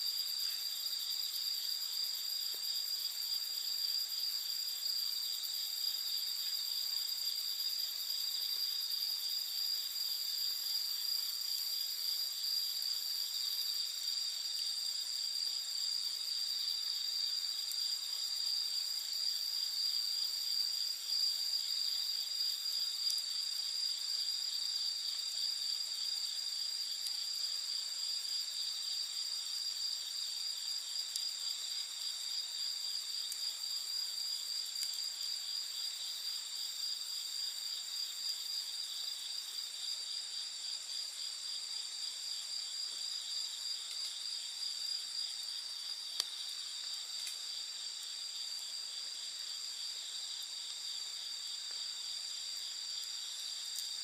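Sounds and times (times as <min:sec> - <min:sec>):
crickets and insects chirping: 0:00.0 - 0:54.0
campfire crackling: 0:00.3 - 0:40.1, 0:42.9 - 0:54.0.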